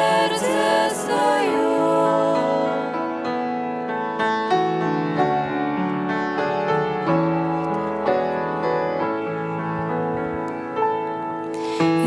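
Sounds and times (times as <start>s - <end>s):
piano melody over held chords: 0.0s - 12.0s.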